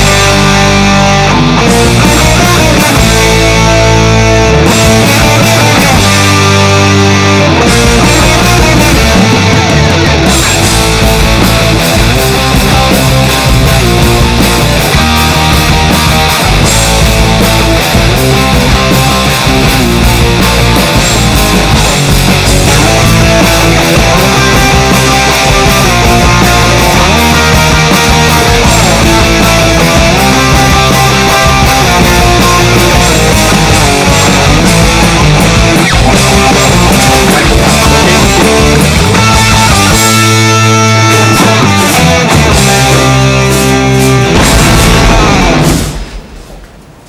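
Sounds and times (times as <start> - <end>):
loud rock music with electric guitar: 0.0 - 46.4.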